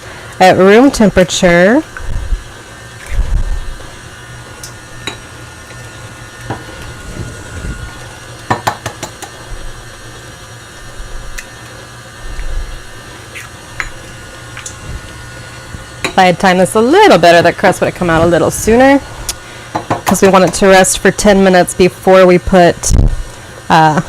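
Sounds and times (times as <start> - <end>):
stand mixer running: 0.0 - 24.0.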